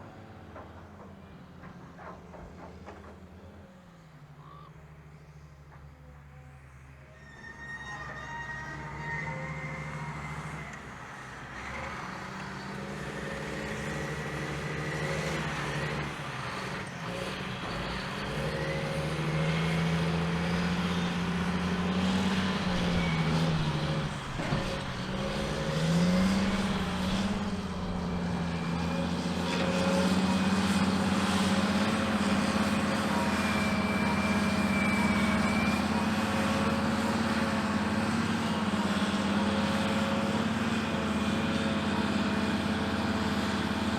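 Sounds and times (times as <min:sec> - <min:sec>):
diesel engines running hard: 0:00.0 - 0:06.9, 0:08.5 - 0:43.9.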